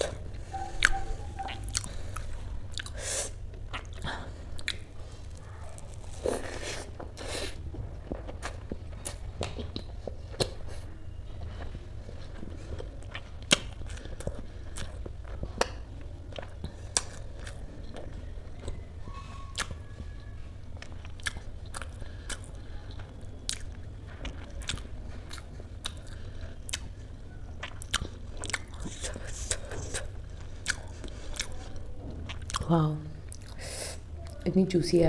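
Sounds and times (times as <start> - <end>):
person chewing soft food: 0.0 - 34.4
steady low hum: 0.0 - 35.0.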